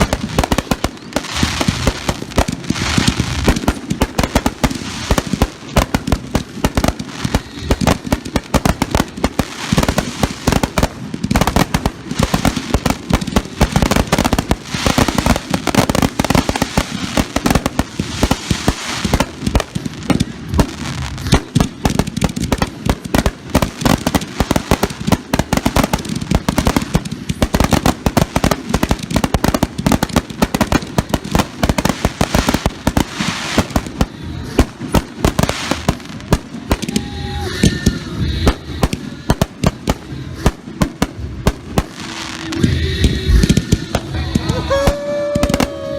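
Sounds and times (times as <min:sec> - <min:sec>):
fireworks exploding and crackling: 0:00.0 - 0:45.9.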